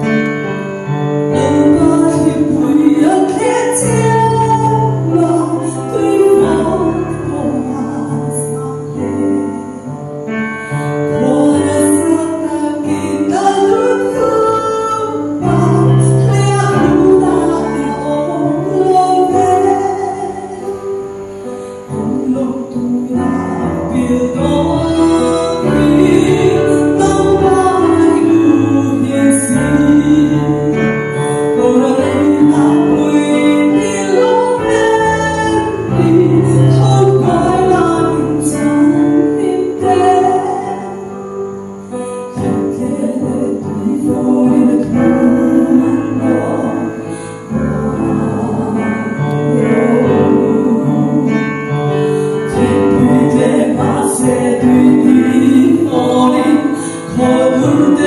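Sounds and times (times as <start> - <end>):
woman singing gospel: 1.3 - 9.9, 11.0 - 21.0, 21.7 - 41.4, 42.1 - 58.0.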